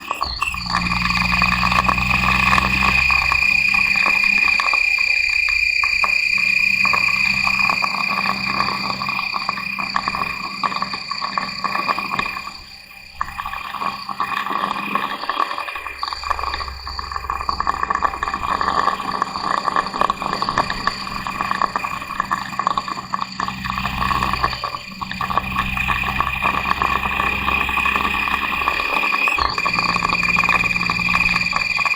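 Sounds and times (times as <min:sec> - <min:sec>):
vehicle engine and transmission whining: 0:00.0 - 0:31.9.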